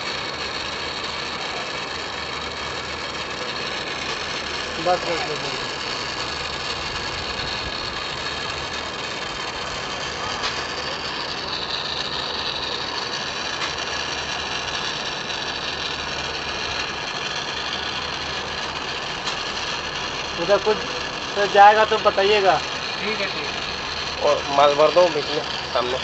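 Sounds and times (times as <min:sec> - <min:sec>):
torch flame hissing: 0:00.0 - 0:26.0.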